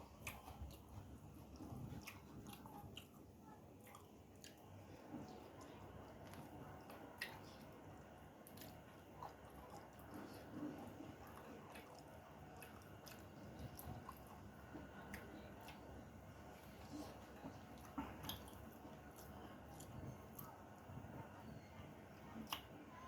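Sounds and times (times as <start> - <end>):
person chewing food: 0.0 - 21.4, 22.3 - 22.8.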